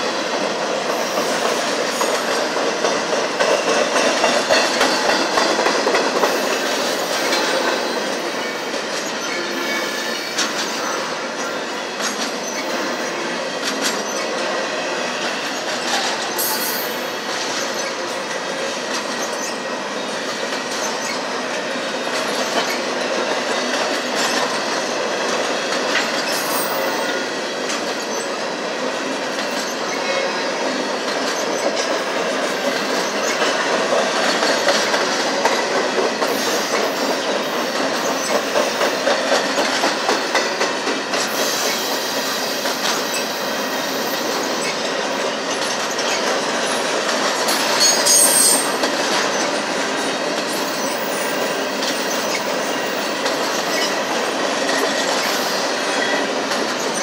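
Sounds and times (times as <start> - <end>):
steel wheels clattering on rail: 0.0 - 57.0.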